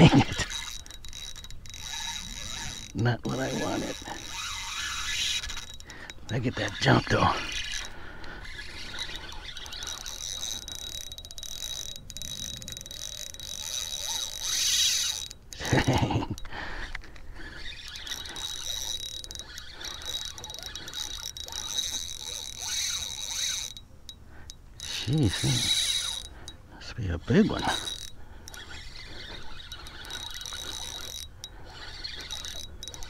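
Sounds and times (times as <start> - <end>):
fishing reel ticking whine: 0.0 - 33.0.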